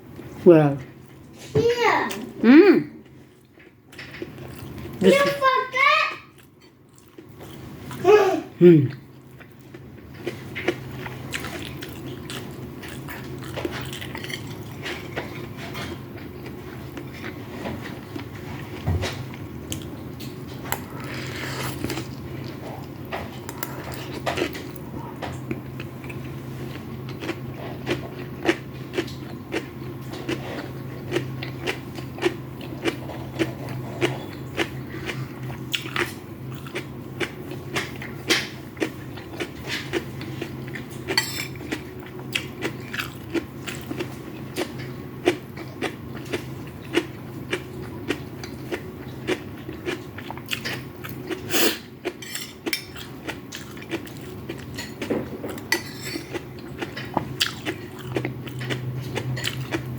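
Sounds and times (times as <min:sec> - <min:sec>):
close chewing and biting: 0:08.9 - 0:59.9.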